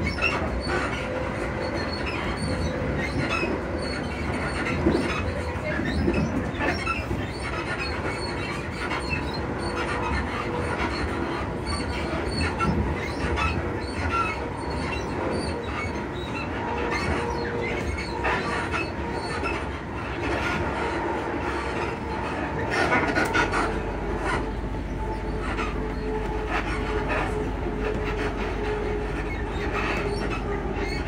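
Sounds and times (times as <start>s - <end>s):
train cabin rumble: 0.0s - 31.0s.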